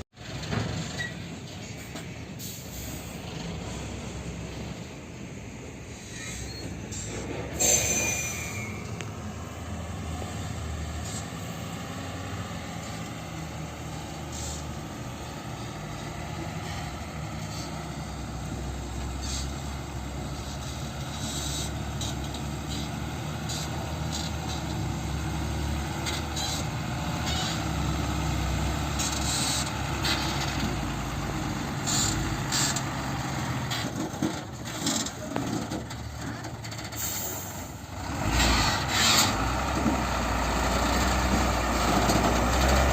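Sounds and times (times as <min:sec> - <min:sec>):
truck engine droning: 0:00.2 - 0:42.9.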